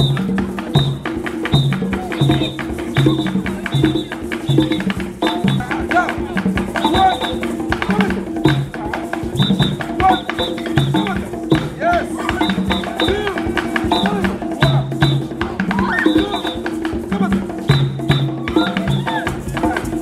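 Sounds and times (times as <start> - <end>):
hand drums playing rhythm: 0.0 - 20.0.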